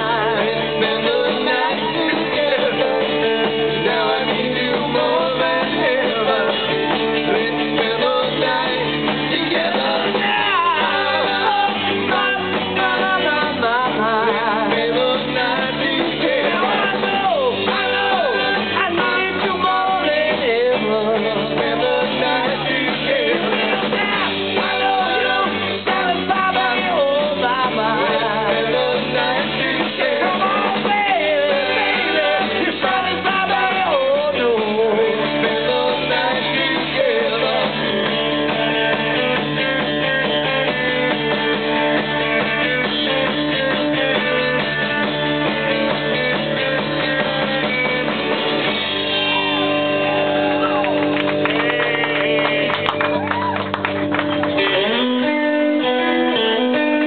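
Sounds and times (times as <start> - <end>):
vocals singing: 0.0 - 48.8, 50.5 - 53.6
live rock band playing: 0.0 - 57.0.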